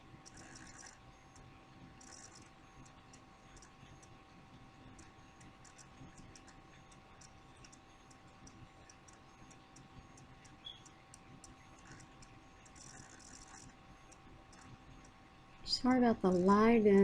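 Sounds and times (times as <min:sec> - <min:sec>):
faint hum: 0:00.0 - 0:17.0
light ticks and clicks: 0:00.2 - 0:17.0.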